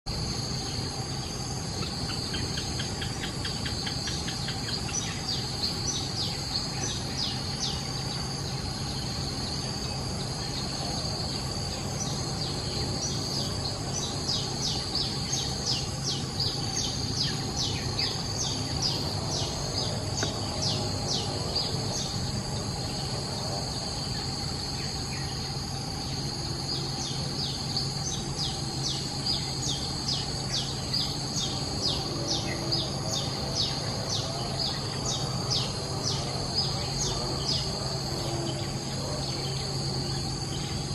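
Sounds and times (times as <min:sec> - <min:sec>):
high-pitched insect drone: 0:00.1 - 0:40.9.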